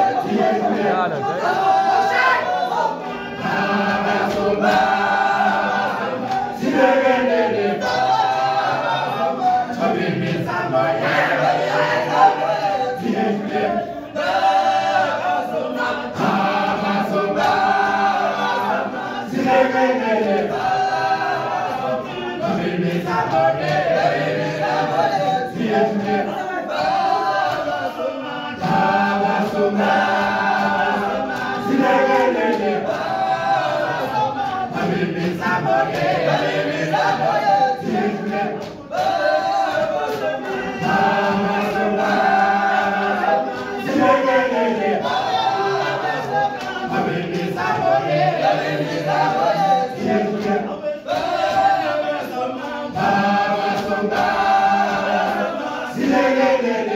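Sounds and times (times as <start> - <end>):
male a cappella choir singing: 0.0 - 56.9.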